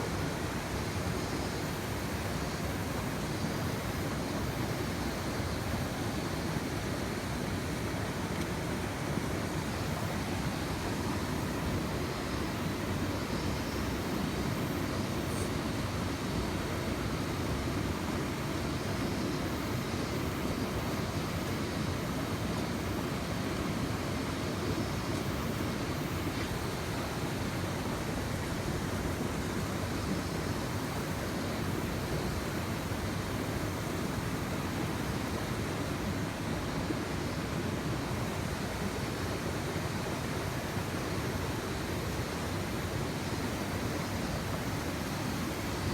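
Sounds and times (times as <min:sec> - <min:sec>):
stream rushing over rapids: 0:00.0 - 0:45.9.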